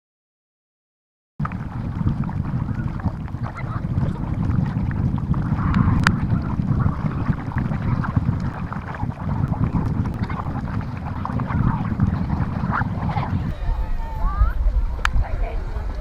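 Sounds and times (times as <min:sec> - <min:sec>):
wind buffeting microphone: 0:01.4 - 0:16.0.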